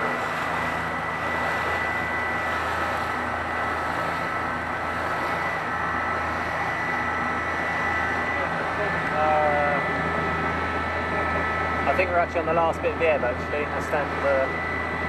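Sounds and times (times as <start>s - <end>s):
electric boat motor whine: 0.0s - 15.0s
water rushing along hull: 0.0s - 15.0s.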